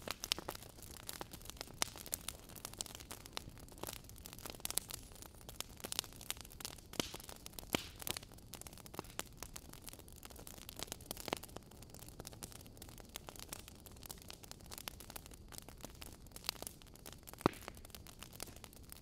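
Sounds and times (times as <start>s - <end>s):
faint steady hiss: 0.0s - 19.0s
wood fire crackling: 0.0s - 19.0s.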